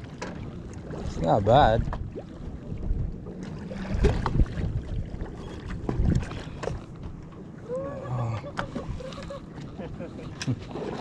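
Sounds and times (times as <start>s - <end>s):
water lapping at shore: 0.0s - 11.0s
wind rumbling on microphone: 0.0s - 11.0s.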